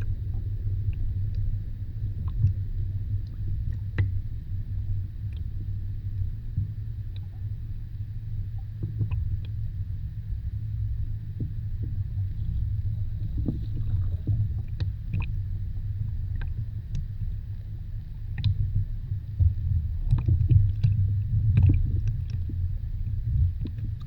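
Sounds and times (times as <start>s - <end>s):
muffled underwater water rumble: 0.0s - 24.0s.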